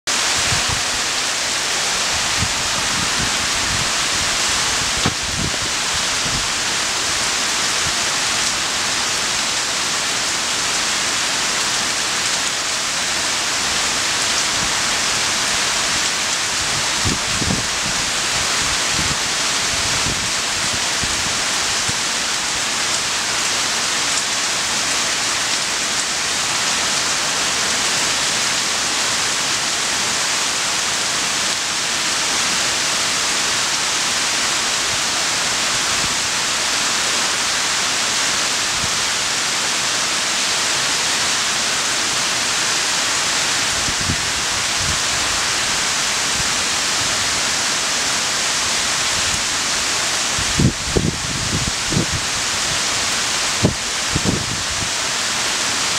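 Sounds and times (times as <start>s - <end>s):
heavy rain on trees and grass: 0.0s - 55.9s.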